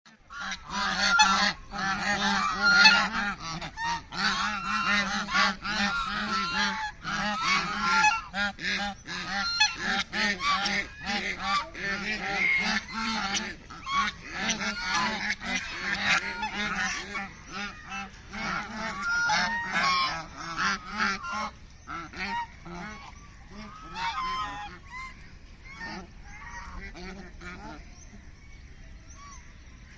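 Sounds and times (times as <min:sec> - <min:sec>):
ducks quacking and honking: 0:00.1 - 0:29.9.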